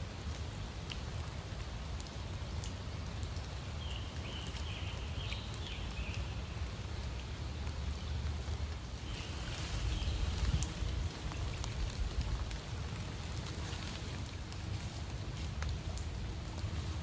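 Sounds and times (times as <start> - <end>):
patter of raindrops: 0.0 - 17.0
steady rain on a pond: 0.0 - 17.0.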